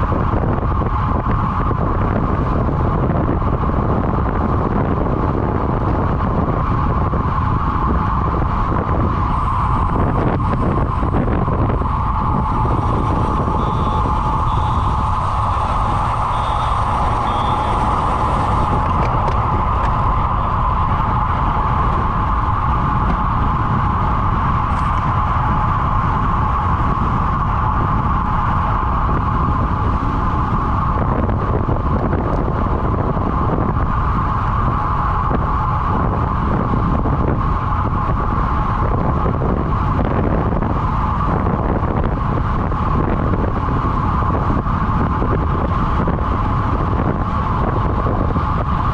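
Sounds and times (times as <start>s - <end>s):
constant hum: 0.0s - 48.9s
low rumble: 0.0s - 48.9s
wind noise on microphone: 0.0s - 48.9s.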